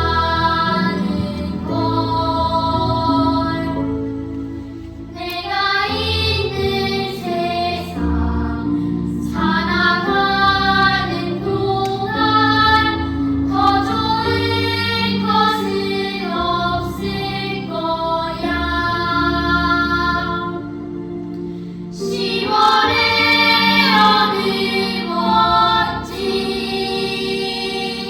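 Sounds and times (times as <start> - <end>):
boys singing in harmony: 0.0 - 4.1, 5.1 - 20.7, 21.9 - 28.0
instrumental accompaniment: 0.0 - 28.0.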